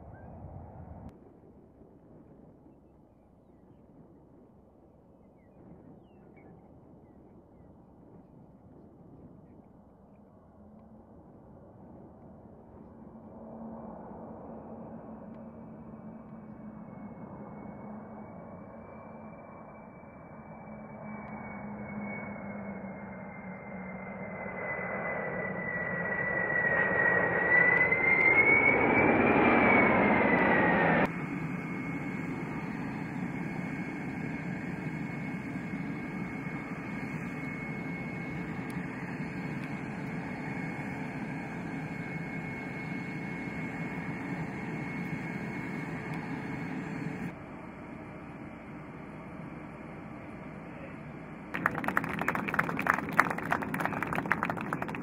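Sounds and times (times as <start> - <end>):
jet engines roaring on low pass: 0.0 - 1.7, 5.7 - 55.0
jet whine and hum: 5.4 - 55.0.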